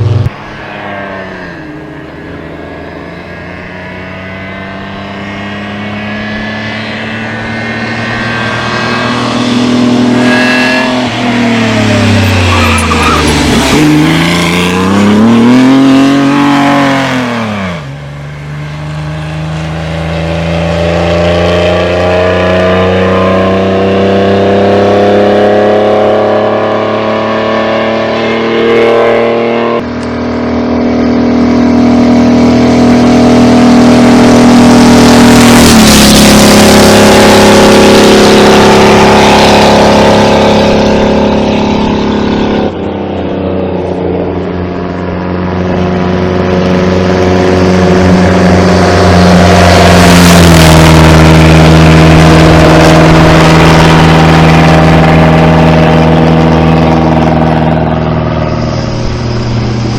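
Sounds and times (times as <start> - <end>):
racing car engines accelerating: 0.0 - 59.9
racing car passing by: 0.0 - 59.9.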